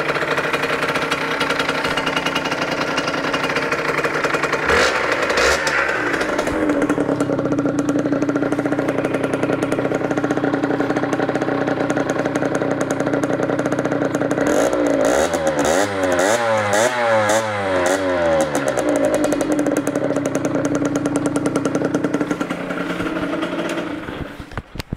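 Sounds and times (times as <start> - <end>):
two-stroke engine idling and revving: 0.0 - 24.9.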